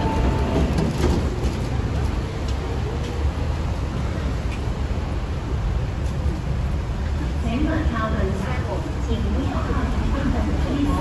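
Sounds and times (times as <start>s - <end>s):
train hum and rumble: 0.0s - 11.0s.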